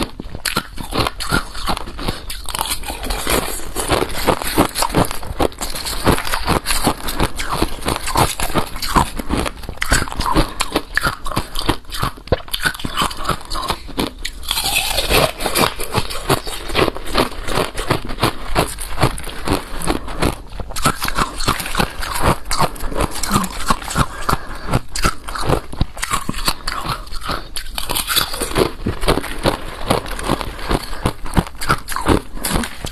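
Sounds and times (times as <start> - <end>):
chewing ice crunching: 0.0 - 32.9.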